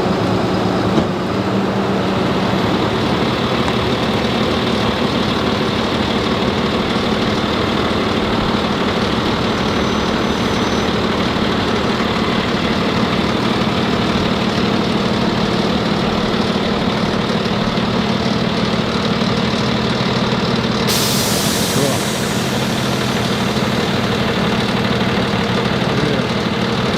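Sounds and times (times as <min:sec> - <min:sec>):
truck engine idling: 0:00.0 - 0:26.9.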